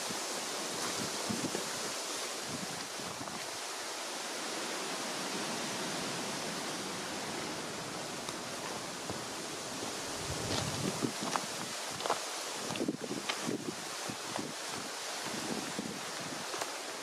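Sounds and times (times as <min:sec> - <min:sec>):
wind through trees and grass: 0:00.0 - 0:17.0.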